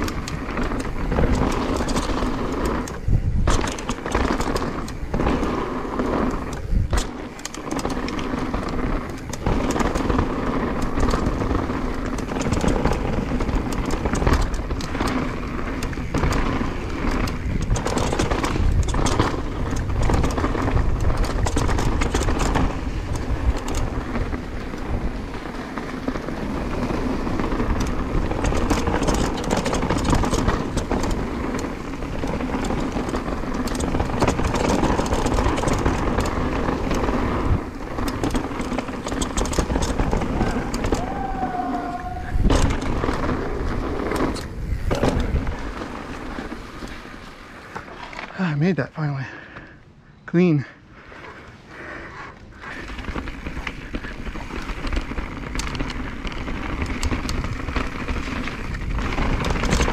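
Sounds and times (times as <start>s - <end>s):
bike clattering and knocking: 0.0s - 48.4s, 52.6s - 59.9s
tyres rumbling over dirt: 0.0s - 49.8s, 50.5s - 59.9s.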